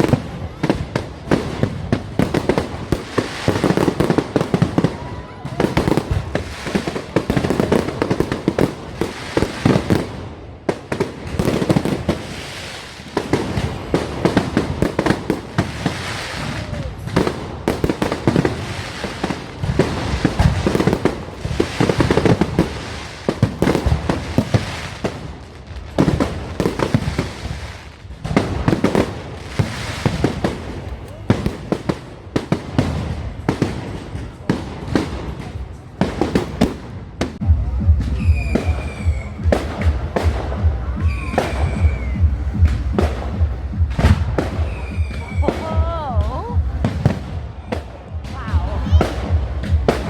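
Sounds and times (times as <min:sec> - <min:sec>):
fireworks crackling and banging: 0:00.0 - 0:50.0.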